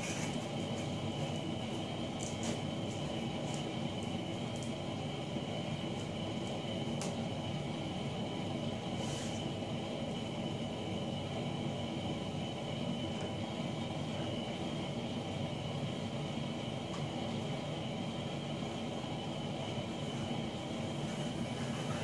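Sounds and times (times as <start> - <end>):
heater rushing noise: 0.0 - 22.0.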